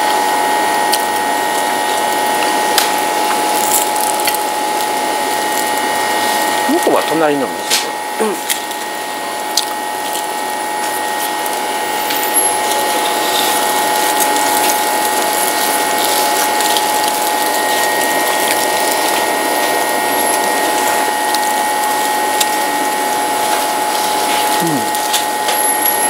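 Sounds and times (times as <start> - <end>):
machine running with whine: 0.0 - 26.0.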